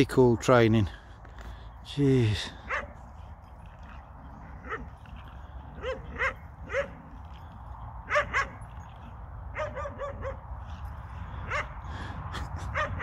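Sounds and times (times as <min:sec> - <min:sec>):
dogs barking and yelping: 0:02.5 - 0:13.0.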